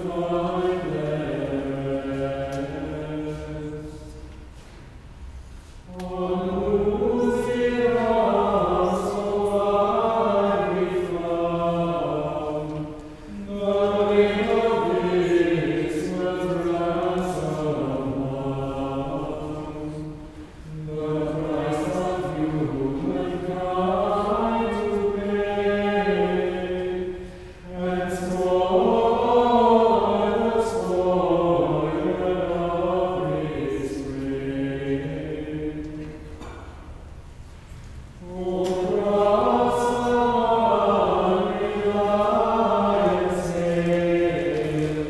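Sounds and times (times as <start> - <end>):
mixed choir singing chant-like music: 0.0 - 4.7, 5.7 - 37.0, 38.1 - 45.0.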